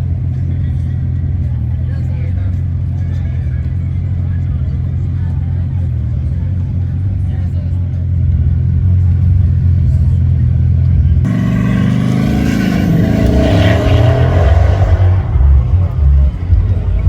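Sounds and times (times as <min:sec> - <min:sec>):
car engine rumbling: 0:00.0 - 0:17.0
voices: 0:00.2 - 0:17.0.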